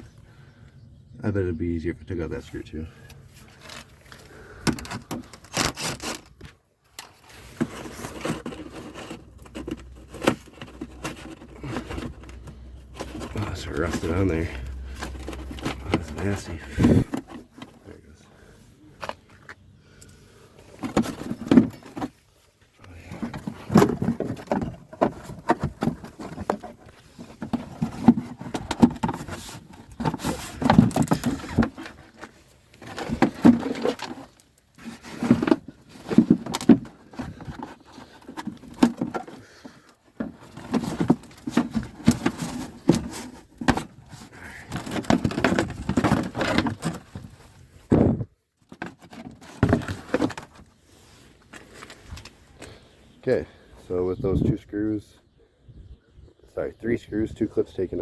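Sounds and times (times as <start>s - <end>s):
plastic liner scraping and rustling: 3.3s - 19.2s, 20.6s - 52.8s.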